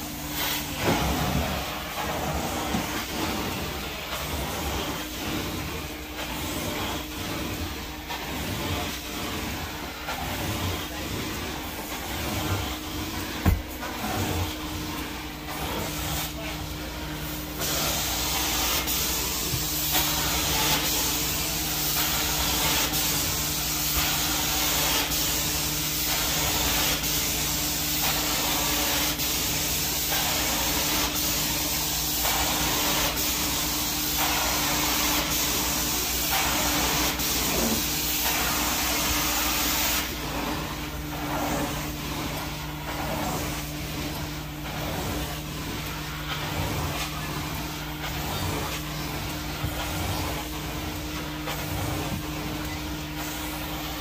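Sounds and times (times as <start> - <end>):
carpet cleaning wand hissing: 0.0 - 54.0.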